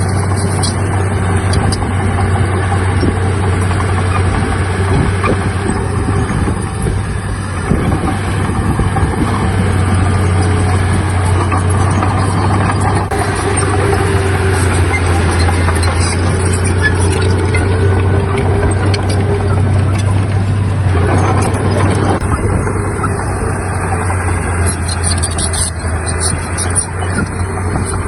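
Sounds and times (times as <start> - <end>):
faint whine: 0.0 - 28.0
heavy diesel engine running: 0.0 - 28.0.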